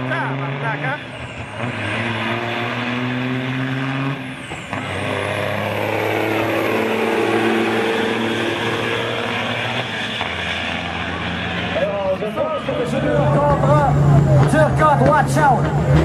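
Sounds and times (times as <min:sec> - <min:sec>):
diesel truck engines droning: 0:00.0 - 0:16.0.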